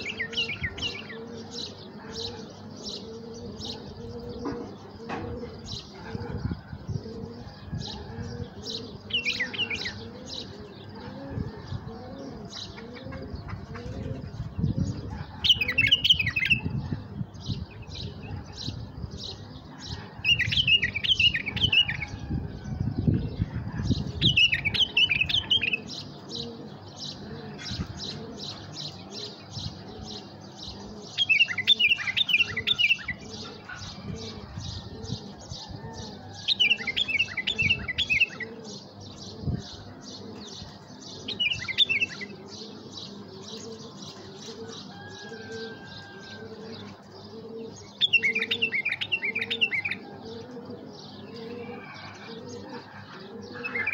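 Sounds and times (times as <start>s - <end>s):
bird chirping: 0.0s - 53.9s
dove cooing: 0.0s - 53.9s.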